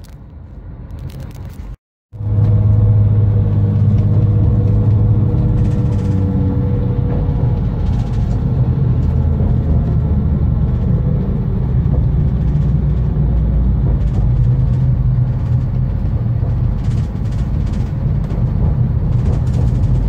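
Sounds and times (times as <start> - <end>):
train wheels rumbling: 0.0 - 20.0
train engine drone: 2.2 - 20.0.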